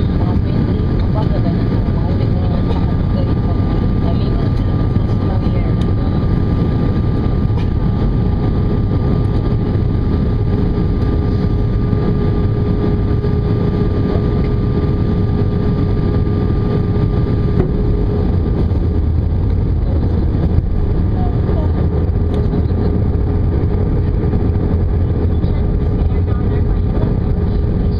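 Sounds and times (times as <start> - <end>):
aircraft cabin engine drone: 0.0 - 27.9
steady engine whine: 0.0 - 27.9.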